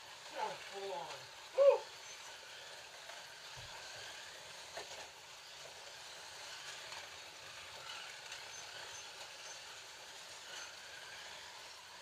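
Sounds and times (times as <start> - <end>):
slot cars whirring and rattling: 0.0 - 12.0.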